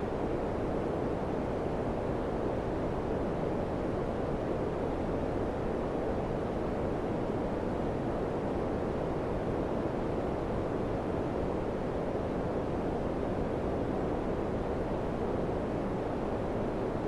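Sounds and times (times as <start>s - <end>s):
air conditioner fan blowing: 0.0s - 17.0s.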